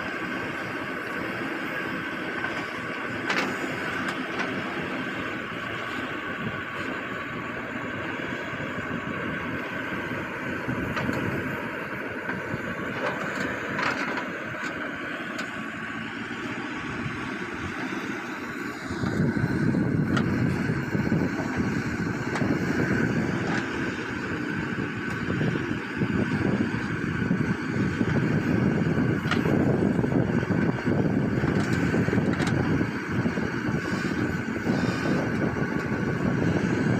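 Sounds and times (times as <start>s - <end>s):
construction machine engine running: 0.0s - 36.9s.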